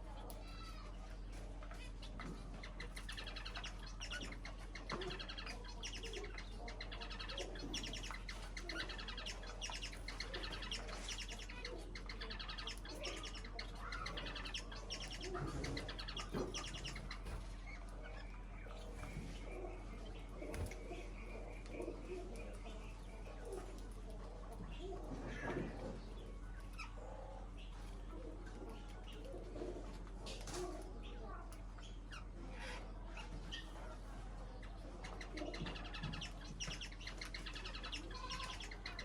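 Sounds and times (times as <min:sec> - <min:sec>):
low electrical hum: 0:00.0 - 0:39.0
small birds chirping: 0:00.0 - 0:39.0.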